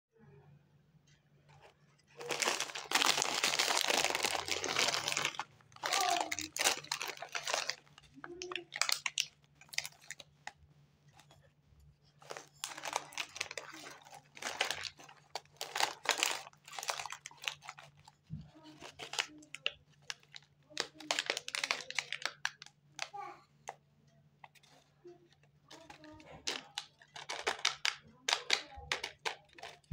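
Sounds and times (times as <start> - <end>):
plastic wrappers crinkling: 1.6 - 11.4, 12.0 - 23.1, 24.4 - 29.9.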